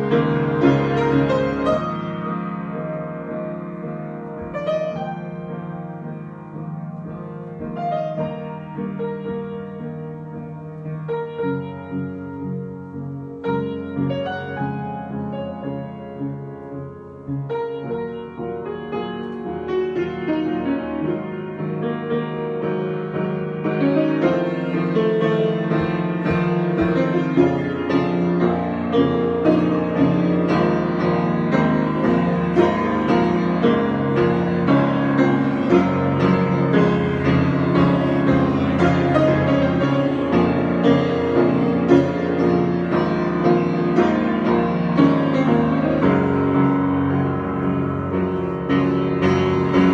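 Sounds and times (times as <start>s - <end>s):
solo piano playing: 0.0s - 49.9s.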